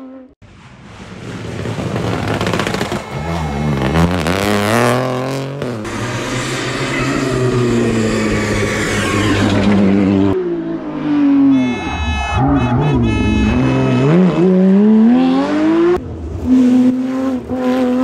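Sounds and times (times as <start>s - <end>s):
rally car engines revving: 1.2s - 18.0s.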